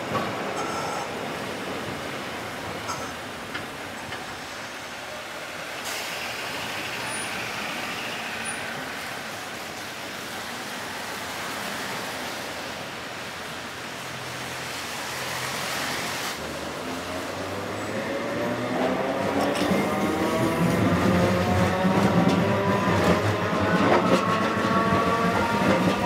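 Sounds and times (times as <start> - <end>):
tram pulling away: 0.0 - 15.8, 16.4 - 26.0
road traffic on slushy streets: 0.0 - 26.0.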